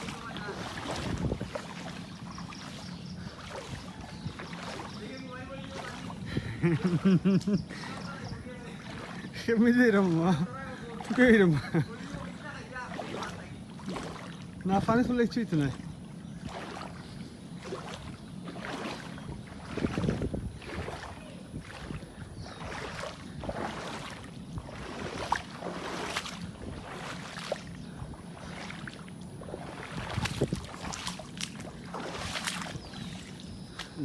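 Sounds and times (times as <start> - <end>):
floodwater splashing and sloshing: 0.0 - 34.0
steady low hum: 0.0 - 34.0.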